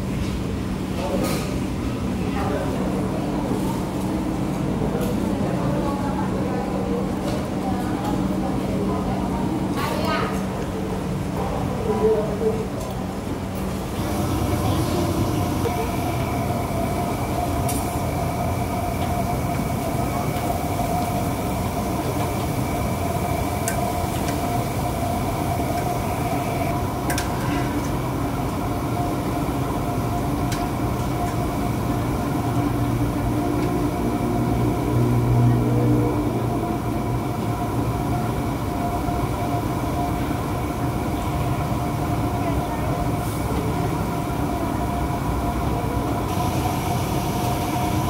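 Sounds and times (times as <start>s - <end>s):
kitchen equipment roar: 0.1s - 39.0s, 45.4s - 48.0s.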